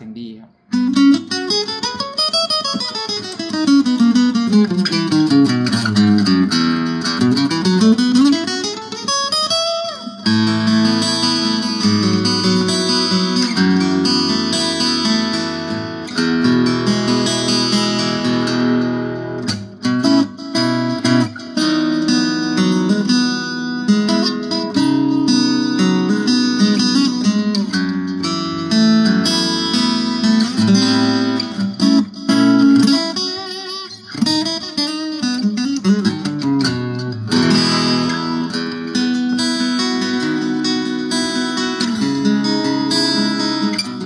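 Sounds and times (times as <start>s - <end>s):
acoustic guitar fingerpicked and strummed: 0.1s - 44.0s.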